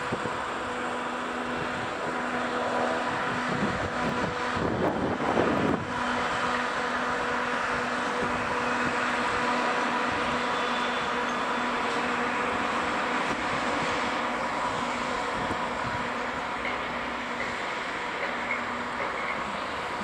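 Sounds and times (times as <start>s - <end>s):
electric train humming: 0.0s - 20.0s
train rushing: 0.0s - 20.0s.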